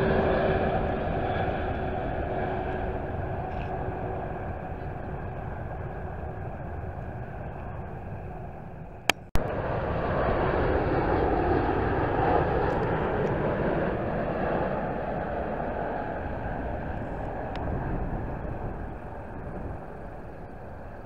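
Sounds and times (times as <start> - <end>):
jet airliner passing low: 0.0 - 21.0.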